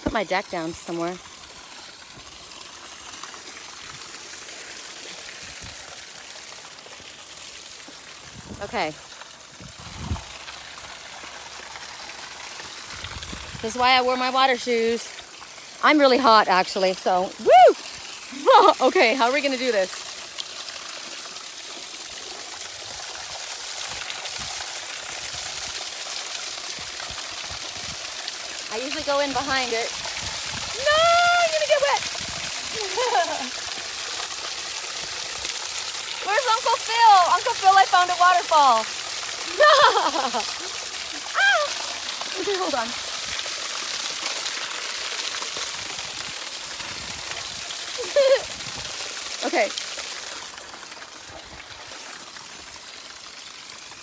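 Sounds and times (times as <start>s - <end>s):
waterfall splashing onto rocks: 0.0s - 54.0s.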